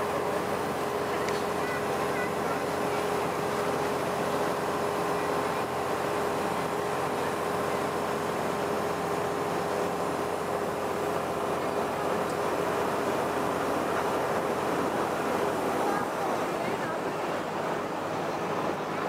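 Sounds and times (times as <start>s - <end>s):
boat engine humming: 0.0s - 19.0s
water wash: 0.0s - 19.0s.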